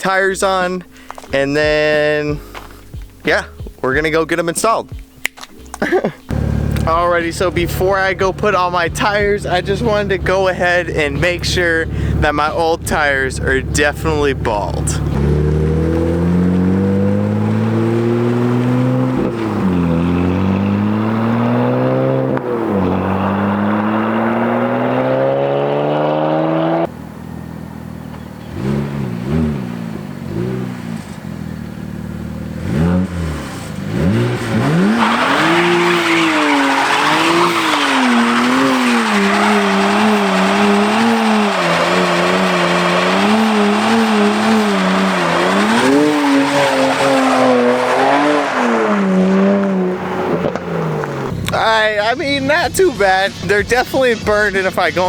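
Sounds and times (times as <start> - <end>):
tires squealing: 5.5 - 55.0
car engine revving: 6.2 - 55.0.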